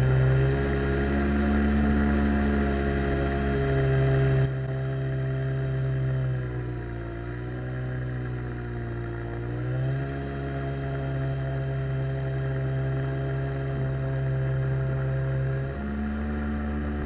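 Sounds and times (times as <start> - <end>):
boat jet motor running: 0.0 - 17.0.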